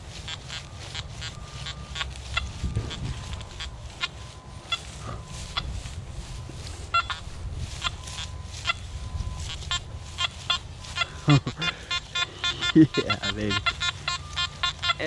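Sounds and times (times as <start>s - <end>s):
faint steady tone: 0.0s - 15.0s
metal detector beeps: 0.0s - 15.0s.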